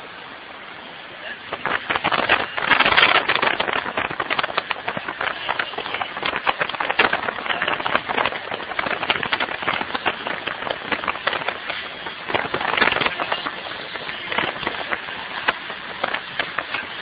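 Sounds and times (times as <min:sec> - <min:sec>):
vehicle fire crackling: 0:00.0 - 0:17.0.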